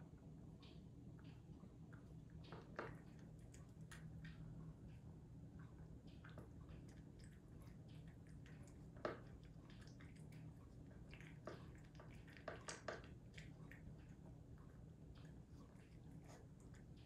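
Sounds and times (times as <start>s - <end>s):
cat chewing and lapping food: 0.1s - 17.0s.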